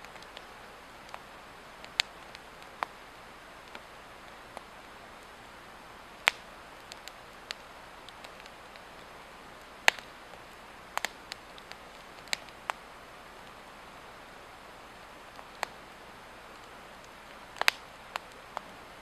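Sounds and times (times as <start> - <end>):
fire hiss: 0.0 - 19.0
wood fire crackling and popping: 0.0 - 19.0.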